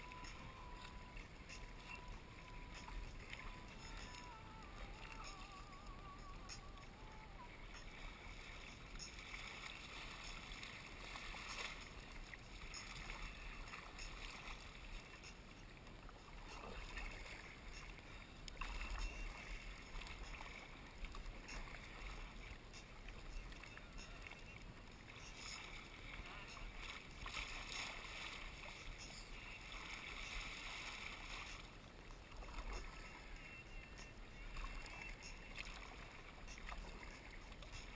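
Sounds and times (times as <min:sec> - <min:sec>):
kayak paddle splashing: 0:00.0 - 0:37.9
water washing along hull: 0:00.0 - 0:37.9.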